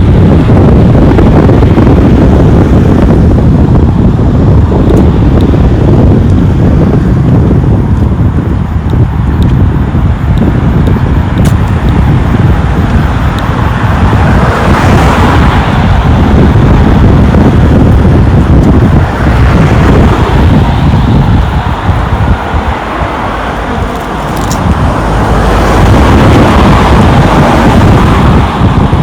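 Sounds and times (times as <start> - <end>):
vehicle tyre and road noise: 0.0 - 29.0
wind buffeting microphone: 0.0 - 29.0.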